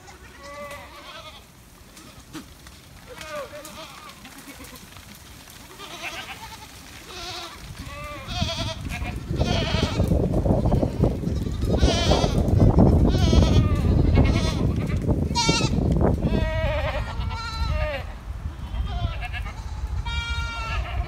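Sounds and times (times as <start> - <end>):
goats bleating: 0.0 - 21.0.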